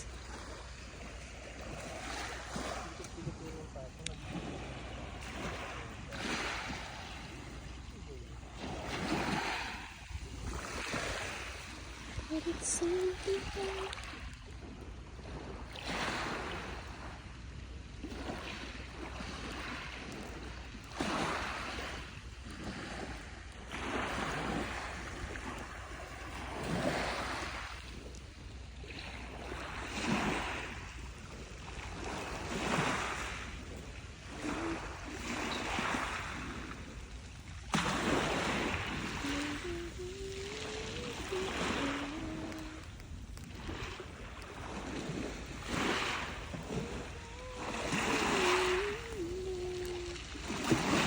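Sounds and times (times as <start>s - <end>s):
low rumble of sea: 0.0s - 51.0s
small waves breaking on beach: 0.0s - 51.0s.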